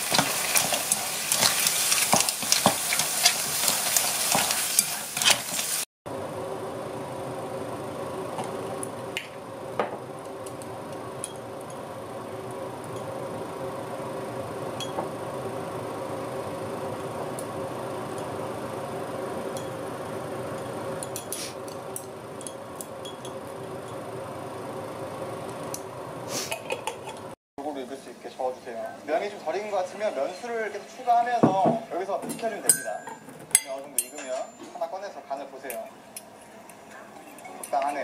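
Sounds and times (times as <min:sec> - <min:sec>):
steady background hum: 0:06.1 - 0:38.0.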